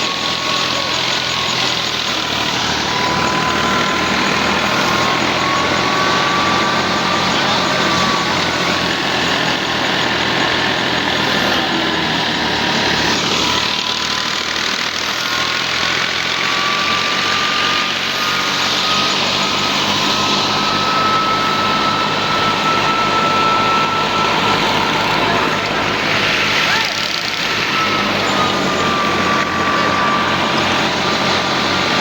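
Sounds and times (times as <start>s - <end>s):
thresher high whine: 0.0s - 32.0s
tractor engine running: 0.0s - 32.0s.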